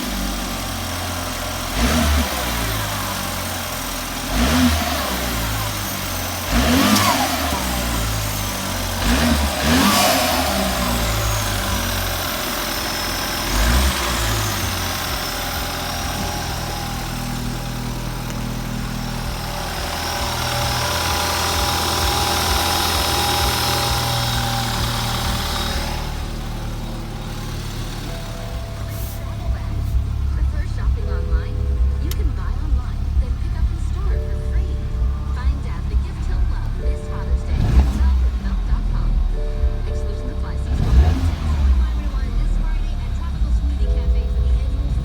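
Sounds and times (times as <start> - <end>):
car engine revving and idling: 0.0 - 45.0.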